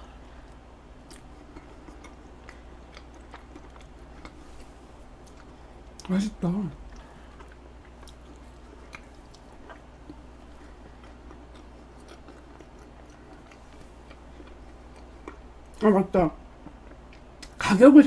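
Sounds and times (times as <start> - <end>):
low steady hum: 0.0 - 18.0
chewing soft food: 0.1 - 15.8, 16.4 - 17.6.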